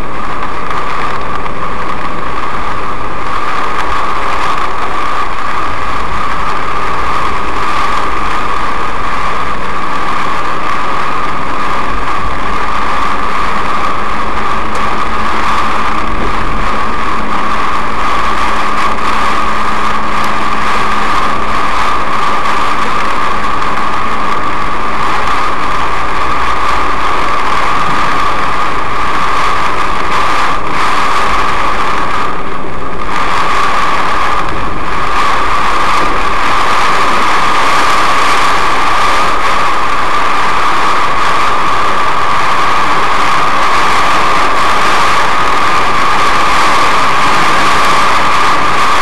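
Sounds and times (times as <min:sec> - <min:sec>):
car road and engine noise: 0:00.0 - 0:49.0
heavy rain on car roof: 0:00.0 - 0:49.0.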